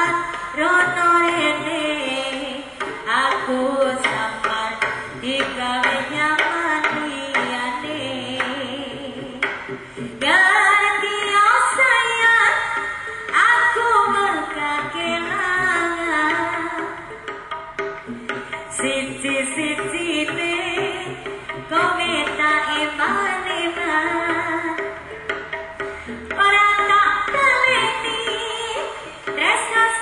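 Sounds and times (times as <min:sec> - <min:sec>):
hand drum strokes: 0:00.0 - 0:30.0
percussion: 0:00.0 - 0:30.0.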